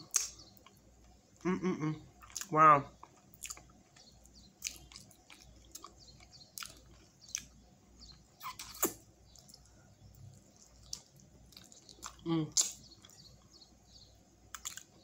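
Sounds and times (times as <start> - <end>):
person chewing with smacking clicks: 0.1 - 1.2, 2.2 - 13.6, 14.5 - 15.0.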